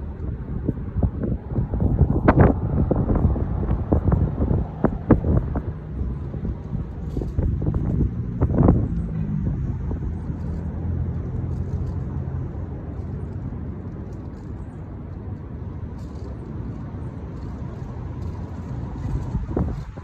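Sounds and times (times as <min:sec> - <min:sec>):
low engine rumble: 0:00.0 - 0:20.0
low outdoor rumble: 0:00.0 - 0:20.0.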